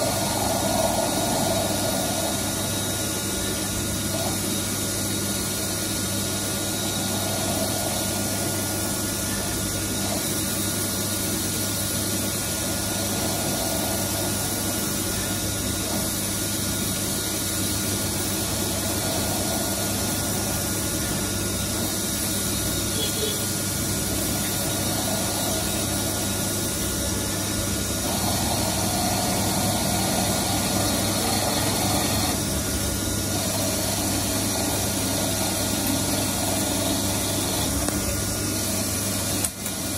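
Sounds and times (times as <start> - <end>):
lathe turning steel: 0.0 - 4.8, 5.9 - 22.8, 23.6 - 39.9
coolant spray hiss: 0.0 - 39.9
electrical hum: 0.0 - 39.9.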